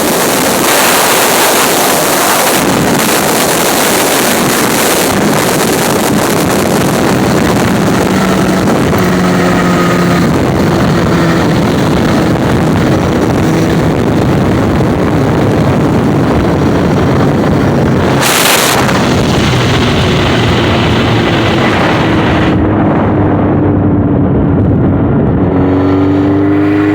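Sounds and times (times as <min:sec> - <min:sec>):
motorcycle engine: 0:00.0 - 0:26.9
wind rushing over microphone: 0:00.0 - 0:26.9.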